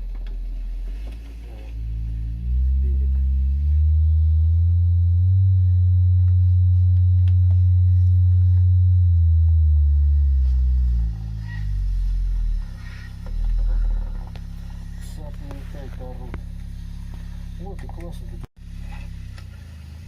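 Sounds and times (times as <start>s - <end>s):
low bass sine tone: 0.0s - 19.6s.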